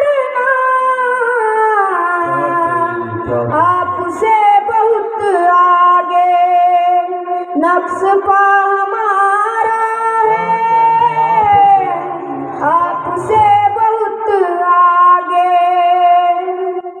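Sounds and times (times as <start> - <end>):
boy singing into a microphone: 0.0 - 17.0.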